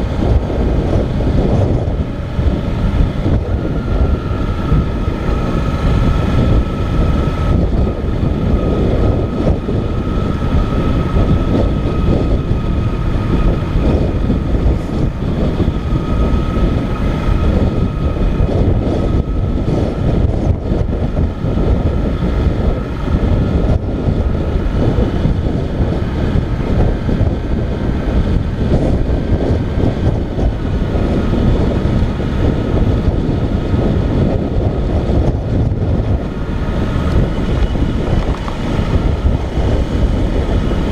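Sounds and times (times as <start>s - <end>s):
faint steady whine: 0.0s - 40.9s
motorcycle engine running: 0.0s - 40.9s
wind on microphone: 0.0s - 40.9s.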